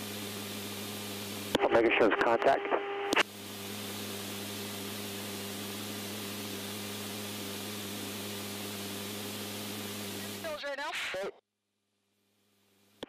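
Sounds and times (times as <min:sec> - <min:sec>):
radio static hiss: 0:00.0 - 0:11.4.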